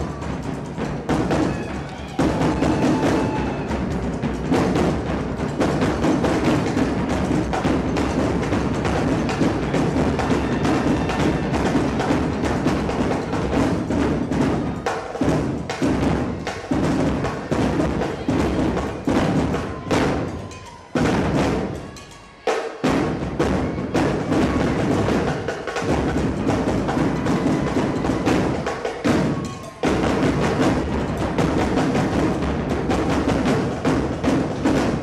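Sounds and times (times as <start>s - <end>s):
marching drums cadence: 0.0s - 35.0s.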